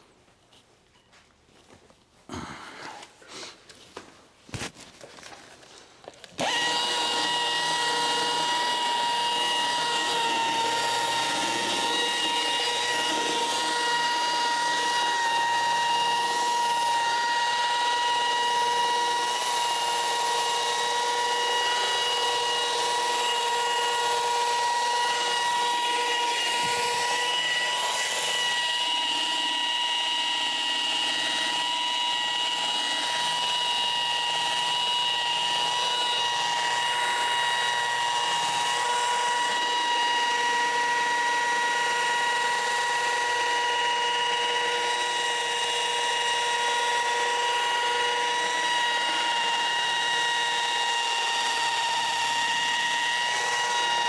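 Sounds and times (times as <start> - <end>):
machine polisher whining: 6.2 - 54.0.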